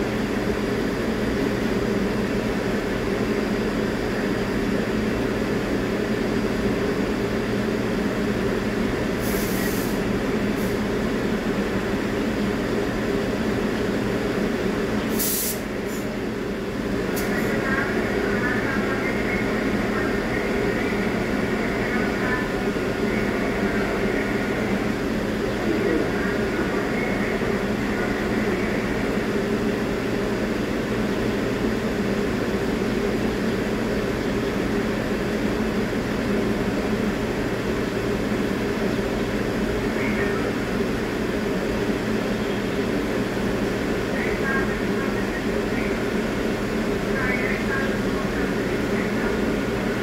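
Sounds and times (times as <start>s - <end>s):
subway train equipment humming: 0.0s - 50.0s.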